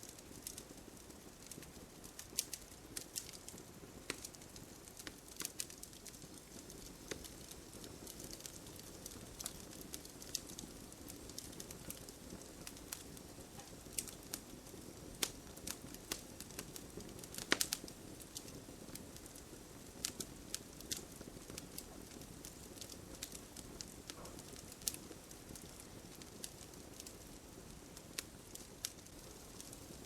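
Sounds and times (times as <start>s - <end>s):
burning wood crackling and popping: 0.0s - 30.0s
campfire hissing: 0.0s - 30.0s.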